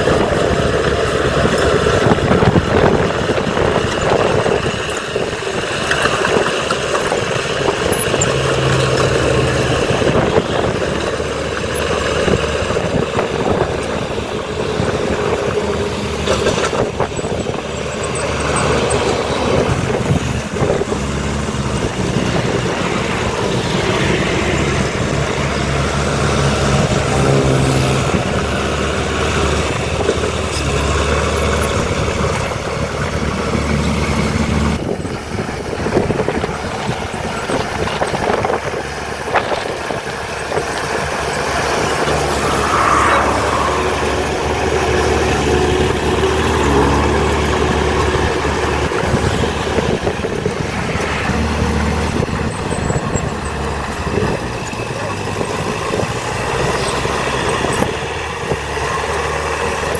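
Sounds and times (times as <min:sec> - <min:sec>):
heavy machinery diesel engines: 0:00.0 - 0:59.9.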